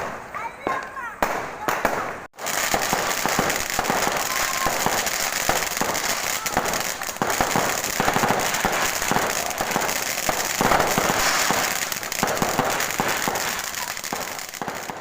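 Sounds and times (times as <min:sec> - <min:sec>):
firework crackling: 0:00.0 - 0:15.0
fireworks popping and banging: 0:00.0 - 0:15.0.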